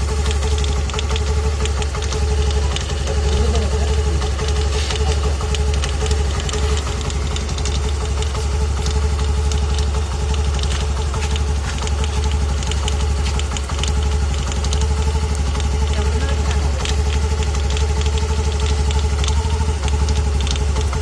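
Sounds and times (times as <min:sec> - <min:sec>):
scooter engine idling: 0:00.0 - 0:21.0
sharp engine ticks: 0:00.0 - 0:21.0.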